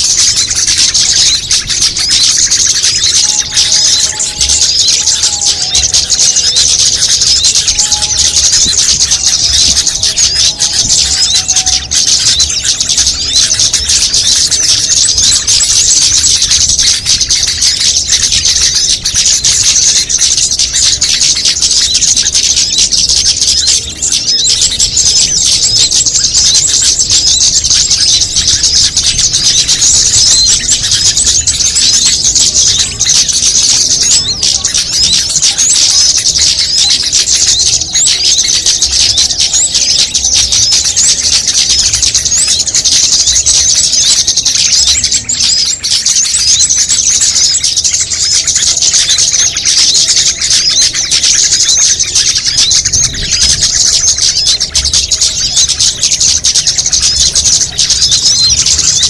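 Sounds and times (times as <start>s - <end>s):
chorus of songbirds chirping: 0.0s - 59.0s.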